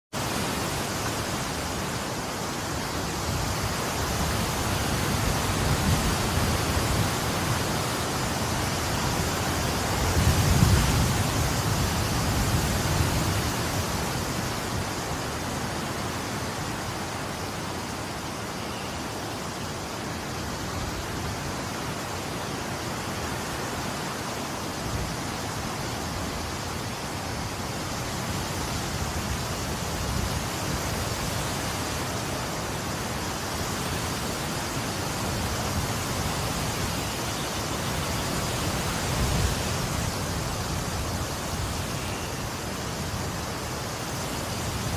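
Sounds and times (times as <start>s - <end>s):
wind blowing: 0.1s - 44.9s.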